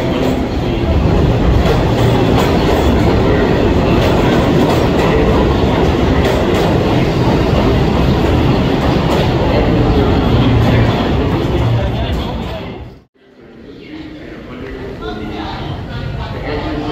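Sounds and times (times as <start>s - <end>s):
subway train rumbling: 0.0s - 16.9s.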